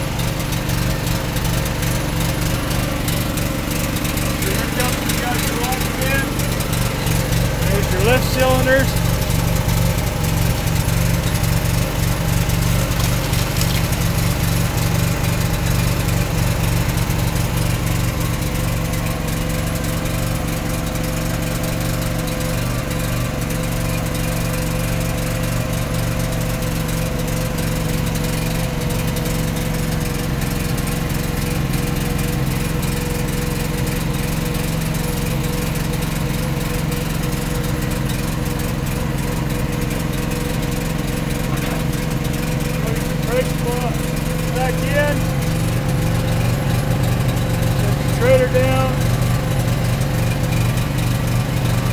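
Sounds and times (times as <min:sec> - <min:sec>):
diesel truck engine running: 0:00.0 - 0:51.9.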